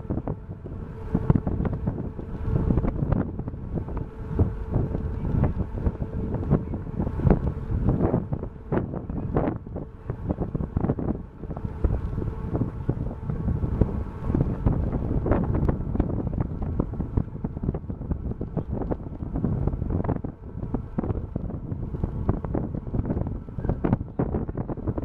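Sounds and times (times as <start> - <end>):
faint ship hum: 0.0 - 25.0
wind buffeting microphone: 0.0 - 25.0.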